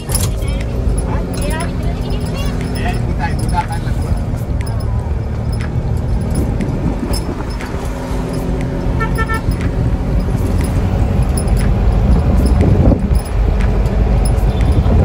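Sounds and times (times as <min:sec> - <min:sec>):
road and wind noise: 0:00.0 - 0:15.0
small engine droning: 0:00.0 - 0:15.0.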